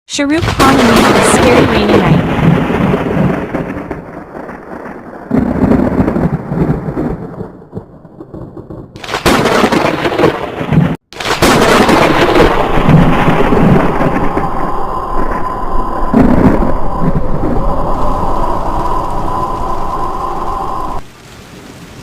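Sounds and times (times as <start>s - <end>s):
rushing rain and wind: 0.2s - 22.0s
loud thunder crash: 0.3s - 21.0s
low thunder rumble: 0.3s - 21.1s.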